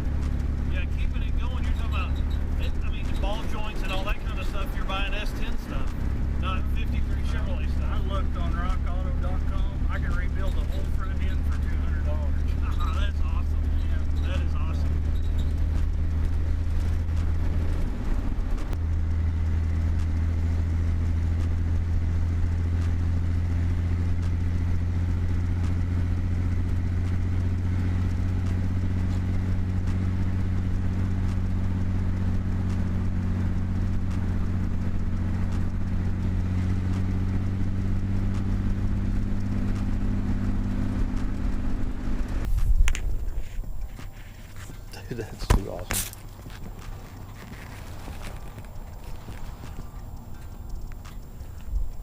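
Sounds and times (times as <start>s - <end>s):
truck engine through straight pipes: 0.0s - 52.0s.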